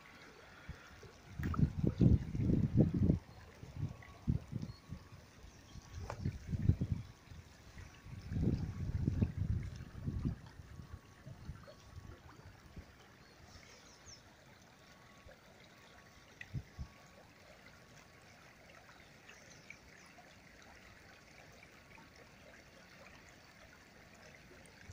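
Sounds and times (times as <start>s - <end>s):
shallow river trickling over stones: 0.0s - 24.9s.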